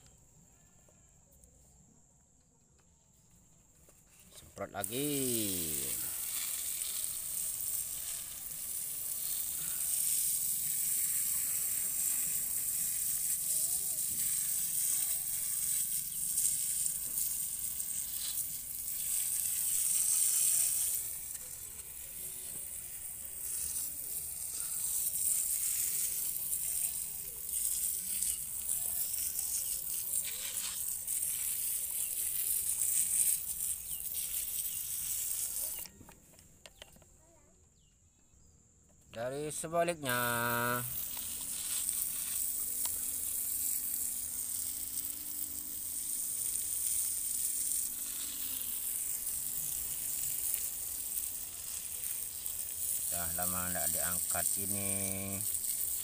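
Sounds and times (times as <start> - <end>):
hose water jet hissing on soil: 3.0 - 36.9, 39.1 - 56.0.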